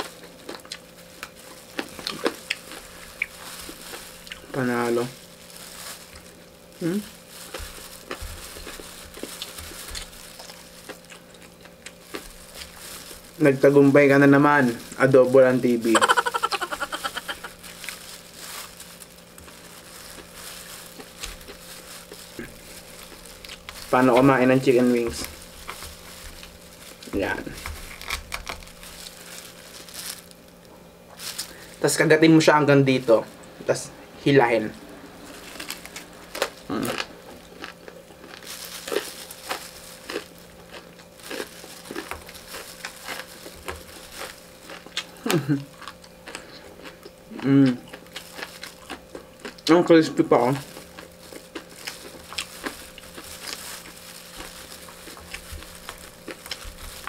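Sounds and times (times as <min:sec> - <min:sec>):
chewing crispy food: 0:00.0 - 0:32.1, 0:32.7 - 0:57.0
plastic glove crinkling: 0:00.0 - 0:46.5, 0:48.0 - 0:57.0
faint steady hum: 0:00.0 - 0:57.0.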